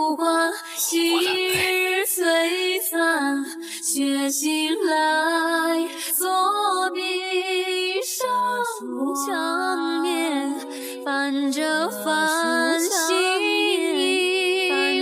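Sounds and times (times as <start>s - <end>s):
slow ballad with singer: 0.0s - 15.0s.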